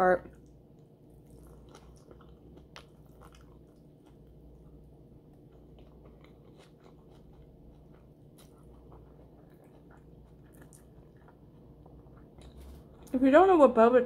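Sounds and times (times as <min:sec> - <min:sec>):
low steady hum: 0:00.0 - 0:14.0
faint chewing and biting: 0:00.2 - 0:13.2.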